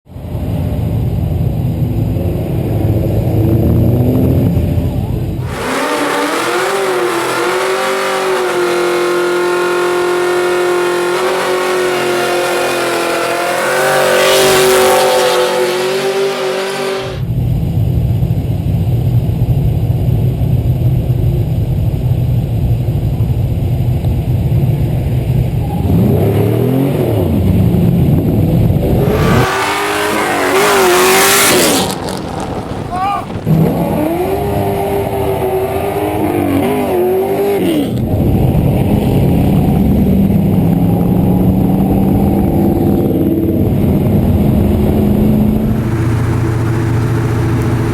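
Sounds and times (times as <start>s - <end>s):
performance car engines running: 0.2s - 16.0s, 17.2s - 37.0s, 38.0s - 47.9s.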